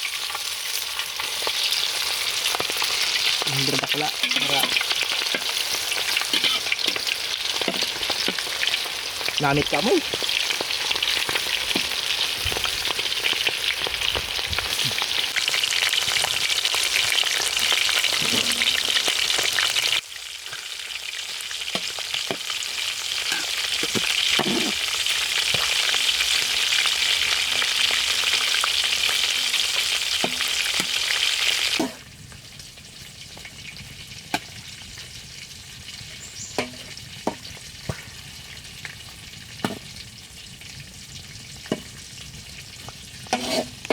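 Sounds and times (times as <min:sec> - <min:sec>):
frying in hot oil sizzle: 0:00.0 - 0:43.9.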